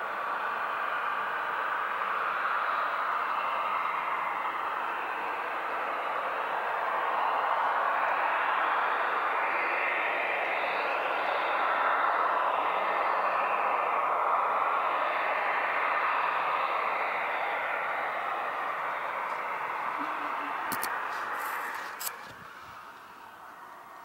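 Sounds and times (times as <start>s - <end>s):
steady rushing drone: 0.1s - 24.0s.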